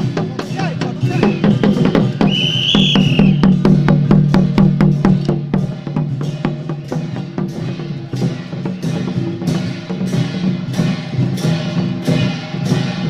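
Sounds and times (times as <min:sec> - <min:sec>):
drums beating fast rhythm: 0:00.0 - 0:13.0.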